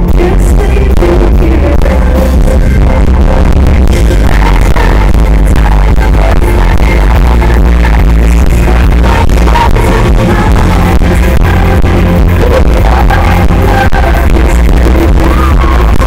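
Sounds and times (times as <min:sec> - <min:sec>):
drums: 0:00.0 - 0:16.0
live pop band playing: 0:00.0 - 0:16.0.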